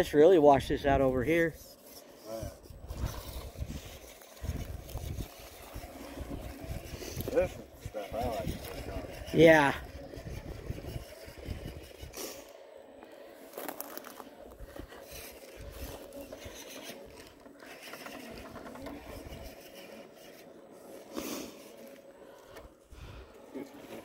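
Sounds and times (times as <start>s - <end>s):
faint electric motor whine: 0.0s - 24.0s
tyres scraping on rock: 1.0s - 24.0s.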